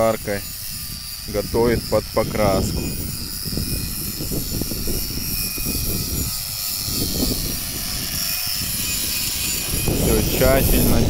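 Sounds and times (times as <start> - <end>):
angle grinder whining on metal: 0.0 - 11.0
wind buffeting microphone: 0.0 - 11.0.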